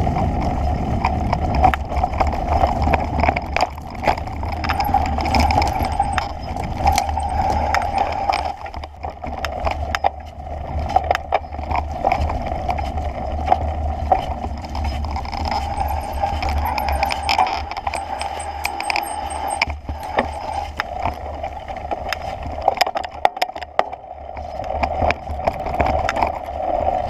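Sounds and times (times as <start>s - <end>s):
bicycle tyres rumbling on dirt: 0.0s - 23.2s, 23.9s - 27.0s
bicycle rattling over bumps: 0.0s - 27.0s.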